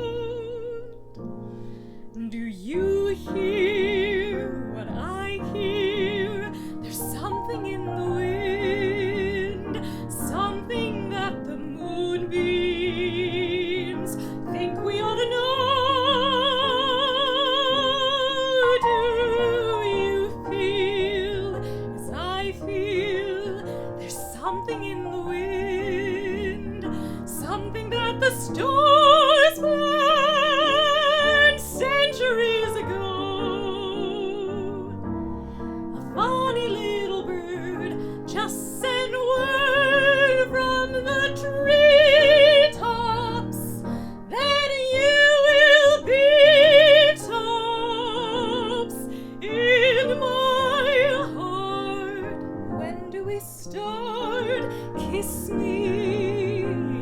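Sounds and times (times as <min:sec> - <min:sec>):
woman singing opera: 0:00.0 - 0:01.2, 0:01.8 - 0:57.0.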